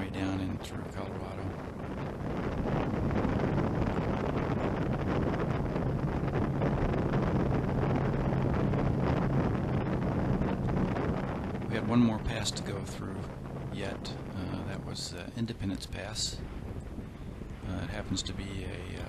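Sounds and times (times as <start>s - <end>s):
motorcycle engine drone: 0.0s - 19.0s
wind rushing over microphone: 0.0s - 19.0s.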